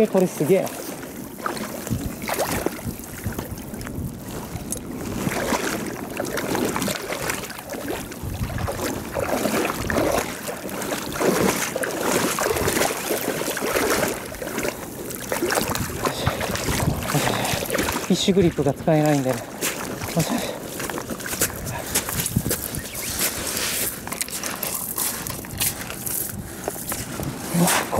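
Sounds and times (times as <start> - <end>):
fish splashing in water: 0.0 - 27.0
wind noise on microphone: 1.2 - 19.0, 19.8 - 27.9.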